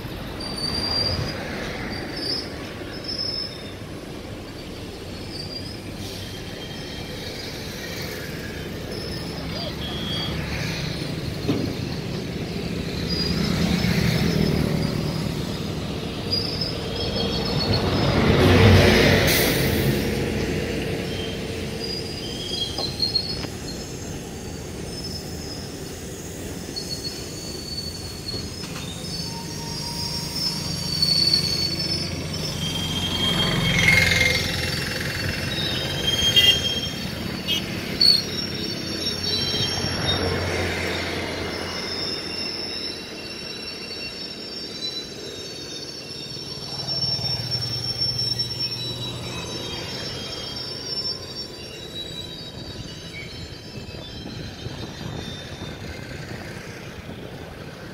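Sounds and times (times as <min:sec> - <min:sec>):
freight train rumble: 0:00.0 - 0:57.9
train wheels squealing: 0:00.0 - 0:57.9.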